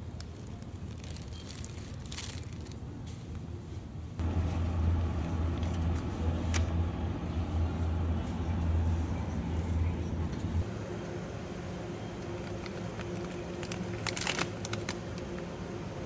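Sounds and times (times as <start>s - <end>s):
refrigerated display case humming: 0.0s - 16.0s
store noise: 0.0s - 16.0s.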